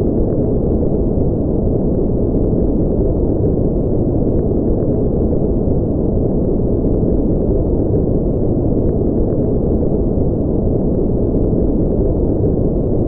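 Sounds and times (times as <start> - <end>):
low rumbling synthesized noise: 0.0 - 13.0.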